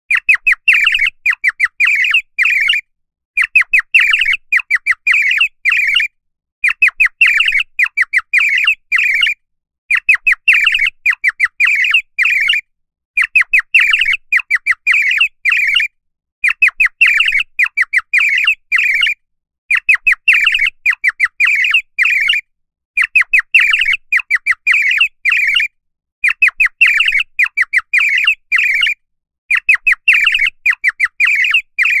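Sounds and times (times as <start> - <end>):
bird whistle tweeting: 0.1 - 32.0.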